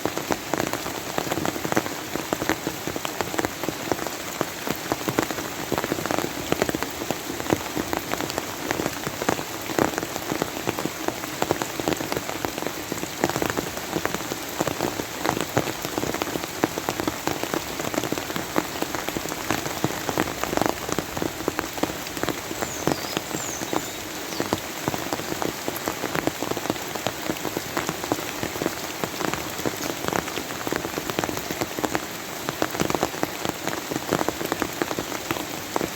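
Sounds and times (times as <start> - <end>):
rain drops pattering: 0.0 - 35.9.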